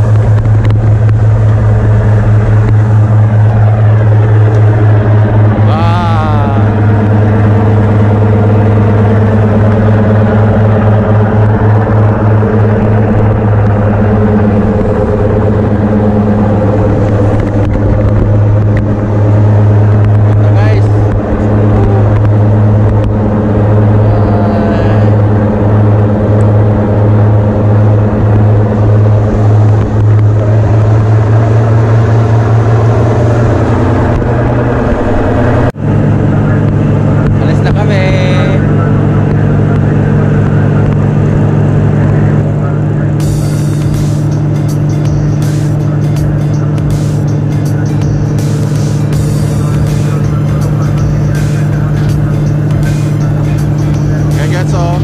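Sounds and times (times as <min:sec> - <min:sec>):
rushing water noise: 0:00.0 - 0:55.0
ship engines droning: 0:00.0 - 0:55.0.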